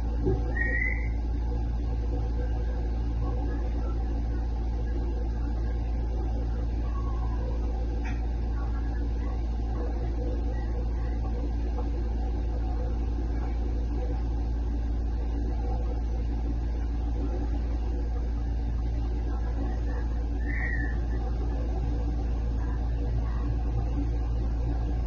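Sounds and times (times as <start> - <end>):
refrigerator humming: 0.0 - 25.0.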